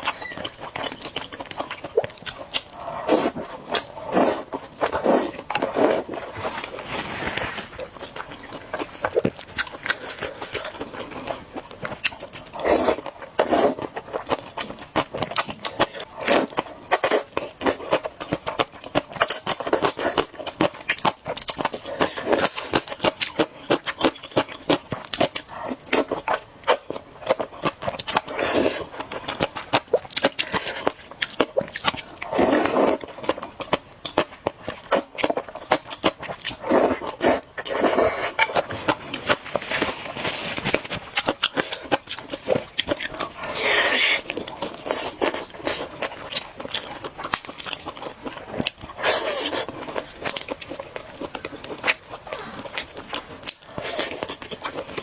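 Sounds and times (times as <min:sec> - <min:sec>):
chewing and mouth clicks: 0:00.0 - 0:06.8, 0:07.8 - 0:55.0.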